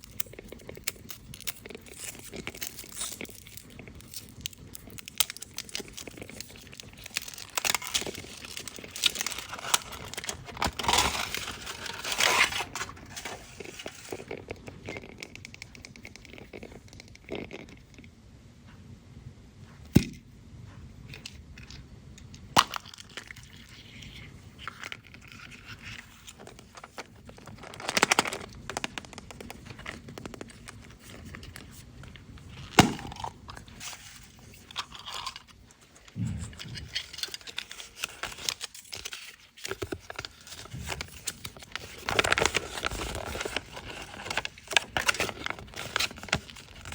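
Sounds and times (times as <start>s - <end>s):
foil wrappers crinkling: 0.0s - 16.7s, 22.8s - 46.9s.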